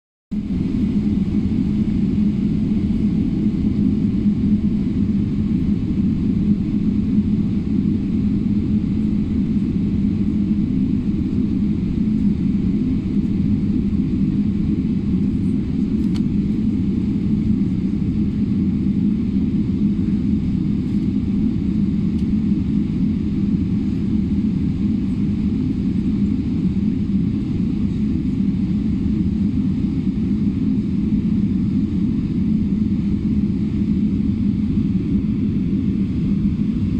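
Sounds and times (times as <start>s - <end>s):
jet engines rumbling: 0.3s - 36.9s.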